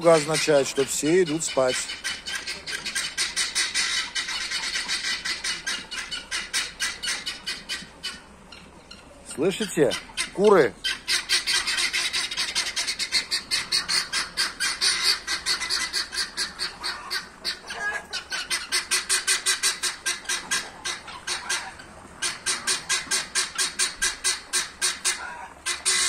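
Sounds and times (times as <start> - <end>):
guinea fowl rattling alarm call: 0.0 - 26.0.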